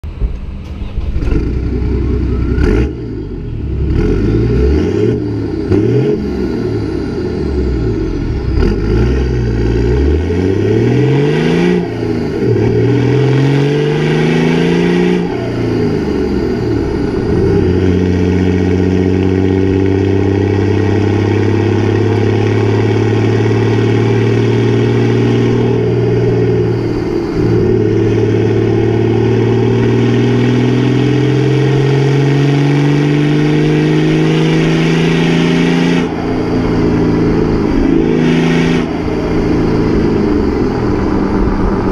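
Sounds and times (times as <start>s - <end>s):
diesel engine accelerating: 0.0s - 41.9s.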